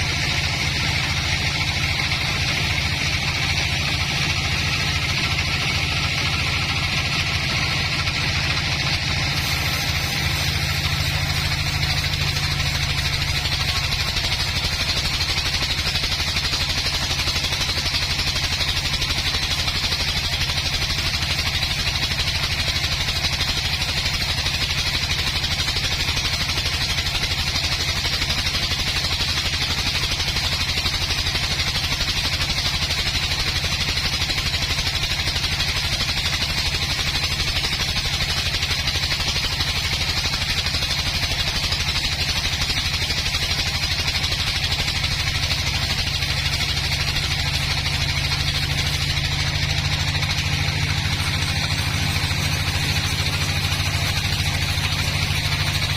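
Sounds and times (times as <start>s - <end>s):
engine running steadily: 0.0s - 55.9s.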